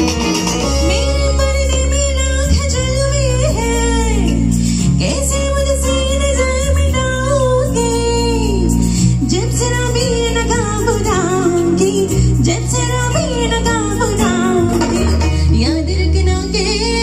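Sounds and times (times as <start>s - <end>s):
amplified instrumental accompaniment: 0.0s - 17.0s
low bass notes: 0.0s - 17.0s
woman singing into microphone: 0.0s - 17.0s.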